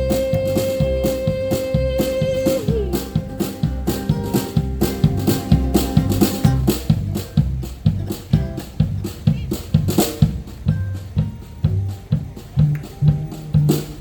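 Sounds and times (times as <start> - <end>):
drum kit beat: 0.0 - 14.0
live country band playing: 0.0 - 14.0
walking bass line: 0.0 - 14.0.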